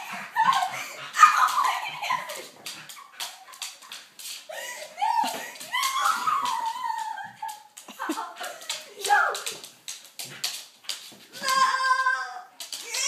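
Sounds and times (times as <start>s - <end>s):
clicks and scuffles of play: 1.4s - 11.8s, 12.6s - 13.0s.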